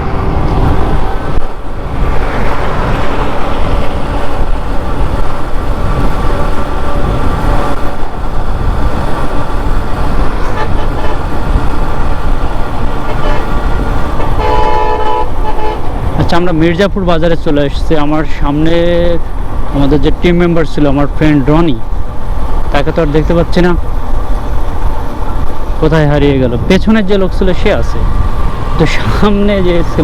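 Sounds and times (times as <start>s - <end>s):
wind buffeting microphone: 0.0s - 17.8s, 18.4s - 30.0s
motorcycle engine and road noise: 0.0s - 30.0s.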